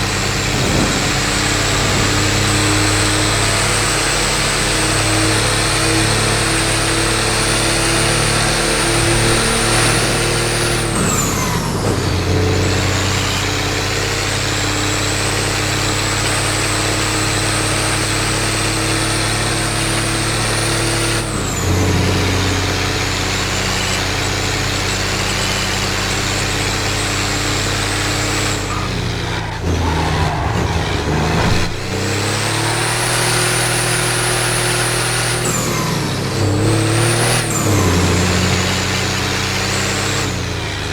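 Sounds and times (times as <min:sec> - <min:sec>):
diesel engine pulling: 0:00.0 - 0:40.9.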